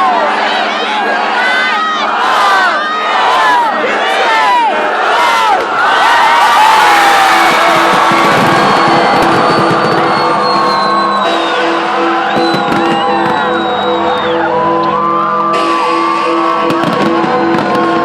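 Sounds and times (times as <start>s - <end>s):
crowd shouting and whooping: 0.0s - 18.0s.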